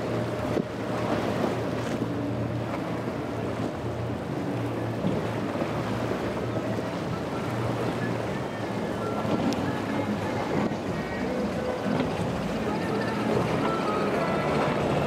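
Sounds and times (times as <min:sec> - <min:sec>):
boat pounding through waves: 0:00.0 - 0:15.0
outboard motors running: 0:00.0 - 0:15.0.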